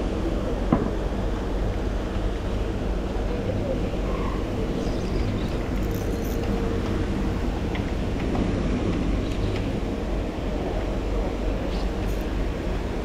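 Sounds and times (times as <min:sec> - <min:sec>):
continuous rushing noise: 0:00.0 - 0:13.0
low machine hum: 0:00.0 - 0:13.0.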